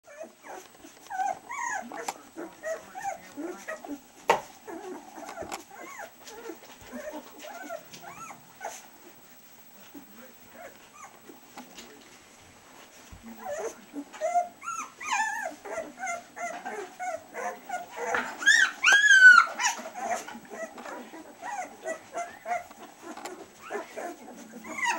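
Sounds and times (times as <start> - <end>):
puppies whimpering and squealing: 0.1 - 11.5, 13.3 - 24.9.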